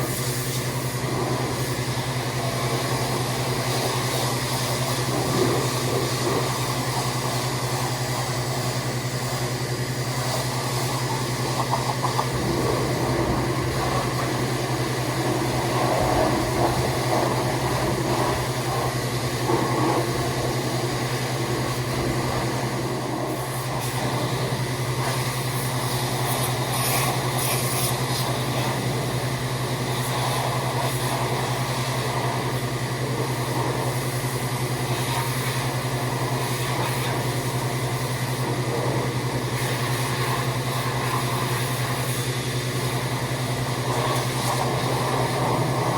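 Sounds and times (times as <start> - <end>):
hiss of water spray: 0.0 - 9.5, 10.1 - 45.9
pressure washer motor hum: 0.0 - 45.9.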